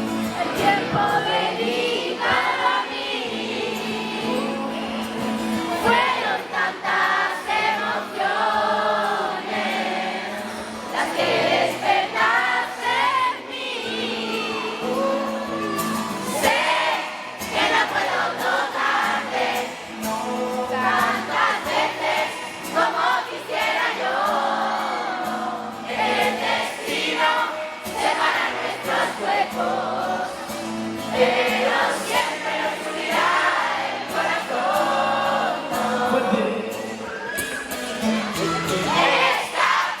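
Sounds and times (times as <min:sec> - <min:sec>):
men singing in harmony: 0:00.3 - 0:37.0.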